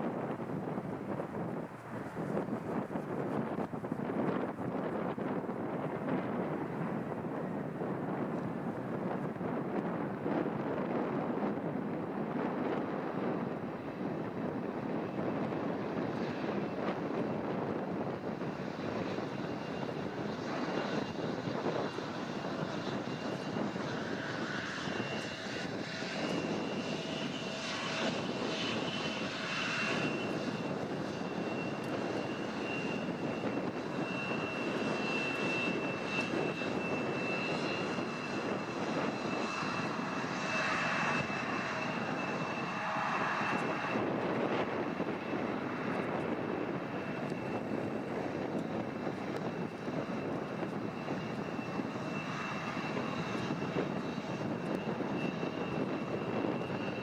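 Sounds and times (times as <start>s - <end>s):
airliner engines running: 0.0s - 57.0s.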